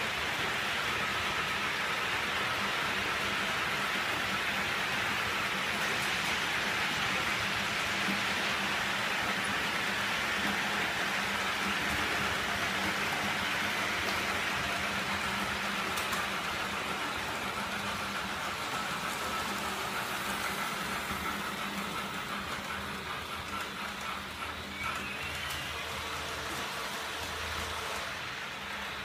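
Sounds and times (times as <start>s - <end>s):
model trains rolling on track: 0.0s - 29.0s.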